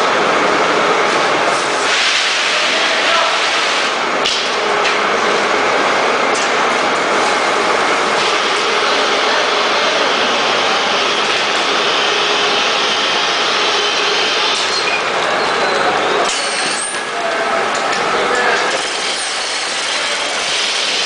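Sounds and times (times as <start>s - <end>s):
packing machine running: 0.0s - 21.0s.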